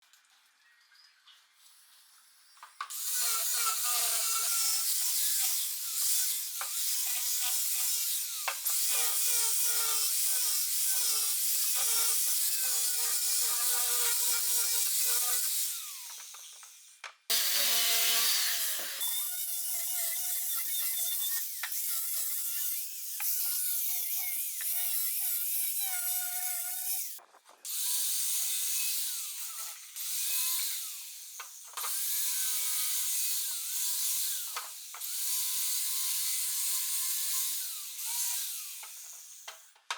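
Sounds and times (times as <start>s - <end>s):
power tool grinding wood: 2.9s - 39.8s.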